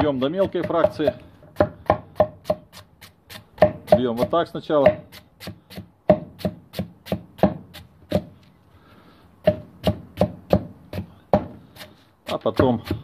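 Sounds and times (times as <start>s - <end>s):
blade chopping vegetables on wood: 0.0s - 8.4s, 9.4s - 13.0s.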